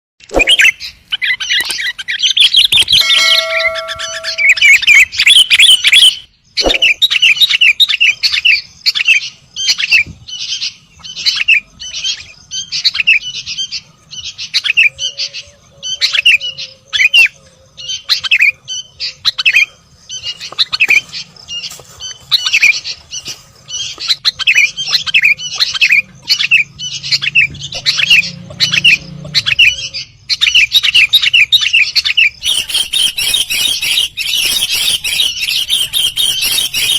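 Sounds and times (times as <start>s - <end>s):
bird chirping: 0.2s - 36.9s.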